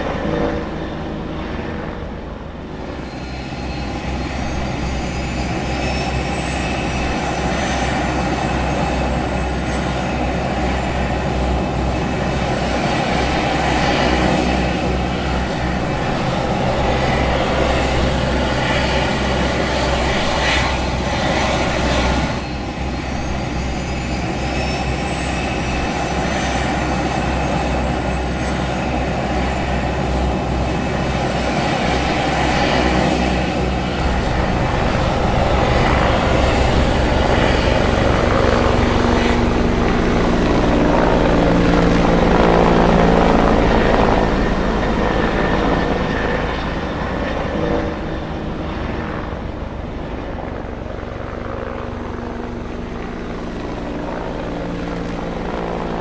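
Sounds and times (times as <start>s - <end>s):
helicopter flying past: 0.0s - 56.0s.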